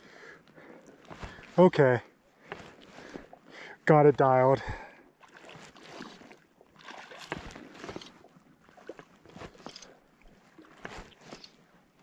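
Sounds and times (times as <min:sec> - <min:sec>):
light water sounds: 0:00.2 - 0:12.0.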